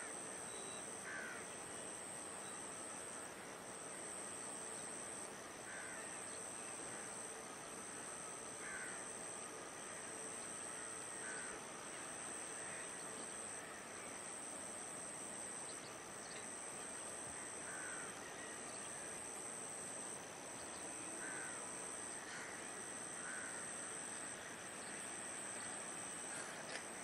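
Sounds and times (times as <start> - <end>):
low steady hiss: 0.0 - 27.0.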